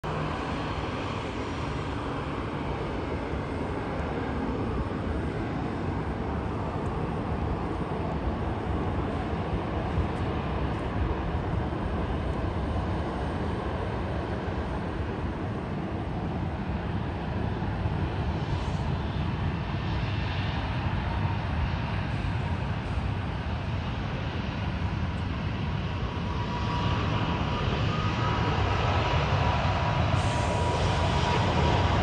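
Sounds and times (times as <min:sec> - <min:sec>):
distant jet engine rumble: 0:00.0 - 0:32.0.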